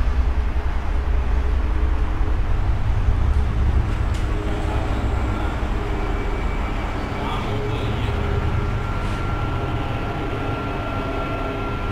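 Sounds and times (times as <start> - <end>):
road traffic rumble: 0.0 - 11.9.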